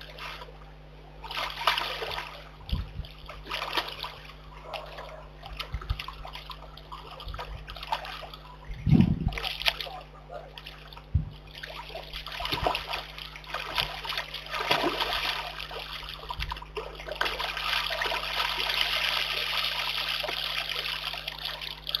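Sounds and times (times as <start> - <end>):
bear splashing in pond: 1.2 - 22.0
water pouring and trickling: 1.3 - 22.0.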